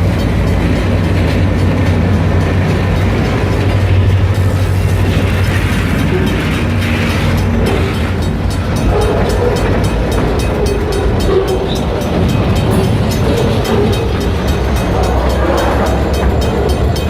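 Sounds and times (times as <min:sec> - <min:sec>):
freight train rumbling past: 0:00.0 - 0:17.0
train cars clicking and rattling: 0:00.0 - 0:17.0.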